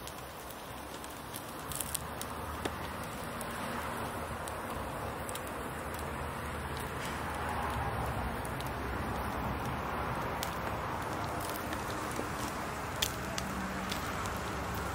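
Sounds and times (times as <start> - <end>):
charcoal fire hissing: 0.0 - 14.9
fire popping: 0.0 - 14.9.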